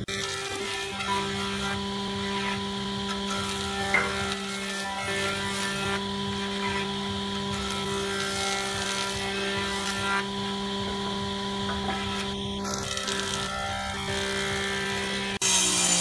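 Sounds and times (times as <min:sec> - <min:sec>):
electric jointer humming: 0:00.0 - 0:16.0.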